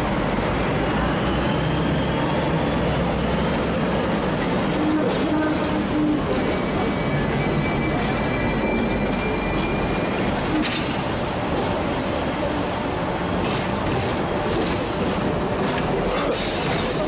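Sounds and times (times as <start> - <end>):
tram wheels rumbling on rails: 0.0 - 17.0
wheels clicking on rail joints: 0.0 - 17.0
wheels squealing: 0.4 - 17.0.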